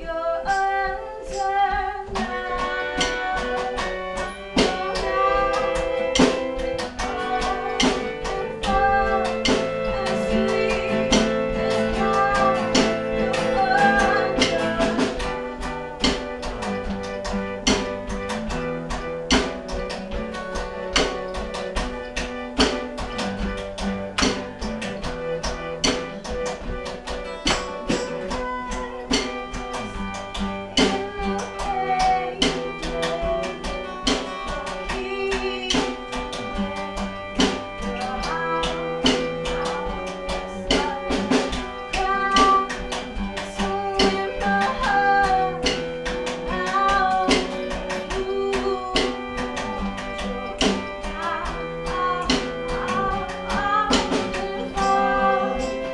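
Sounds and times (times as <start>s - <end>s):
person singing: 0.0s - 17.5s, 27.7s - 55.9s
acoustic guitar strumming: 0.0s - 55.9s
drum kit beat: 0.0s - 55.9s.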